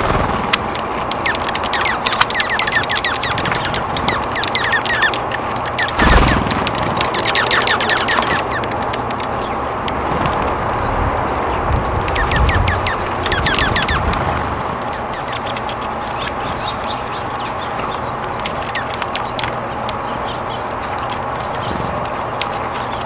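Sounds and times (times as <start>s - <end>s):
low rumble: 0.0s - 22.8s
wild birds calling: 0.0s - 23.0s.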